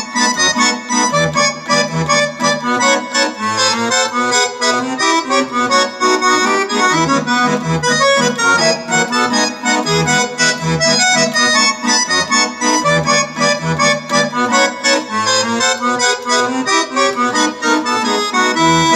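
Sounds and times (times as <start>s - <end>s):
accordion playing lively melody: 0.0s - 18.9s.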